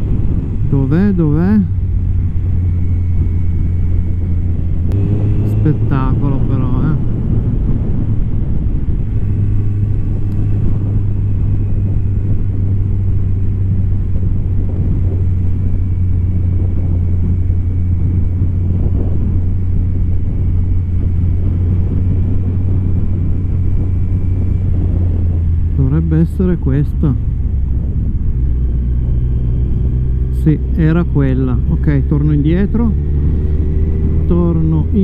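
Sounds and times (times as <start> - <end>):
motorcycle engine cruising: 0.0 - 35.0
wind and road noise: 0.0 - 35.0.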